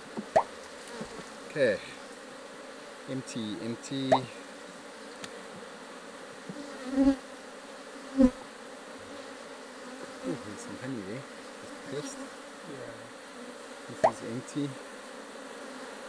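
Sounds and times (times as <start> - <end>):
honeybees humming: 0.0 - 16.0.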